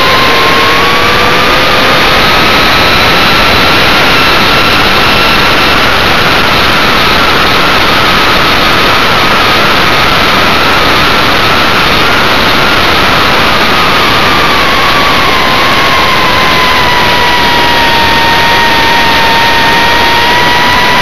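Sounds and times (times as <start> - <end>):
high-pitched motor and propeller whine: 0.0 - 21.0
wind rush on microphone: 0.0 - 21.0.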